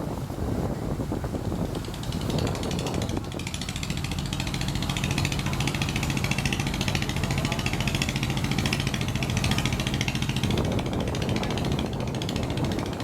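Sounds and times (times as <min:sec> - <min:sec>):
boat diesel engine throbbing: 0:00.1 - 0:13.0.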